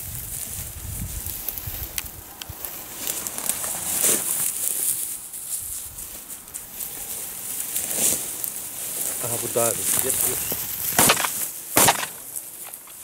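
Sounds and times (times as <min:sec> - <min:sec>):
swish through grass: 0:00.0 - 0:12.6
dry grass crackling and rustling: 0:00.0 - 0:13.0.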